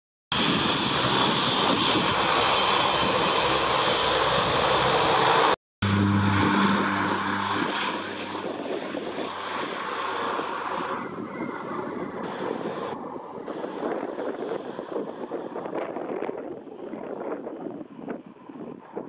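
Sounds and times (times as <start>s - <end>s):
low propeller hum: 0.3s - 19.0s
turboprop engines passing: 0.4s - 19.0s.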